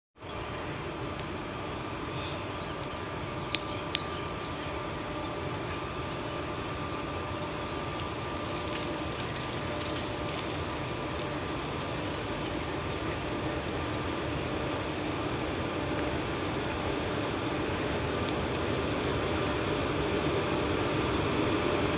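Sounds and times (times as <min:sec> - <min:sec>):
faint whining tones: 0:00.2 - 0:21.9
train rumble: 0:00.4 - 0:21.9.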